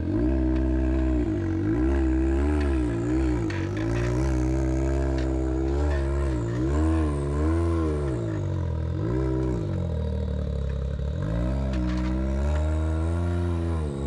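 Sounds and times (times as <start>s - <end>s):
engine revving in throttle blips: 0.0s - 14.0s.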